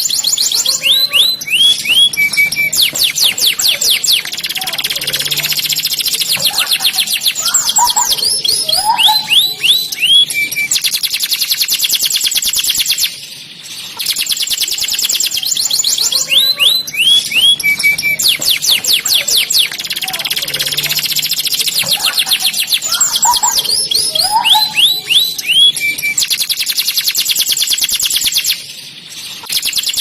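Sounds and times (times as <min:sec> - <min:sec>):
canary singing trills: 0:00.0 - 0:30.0.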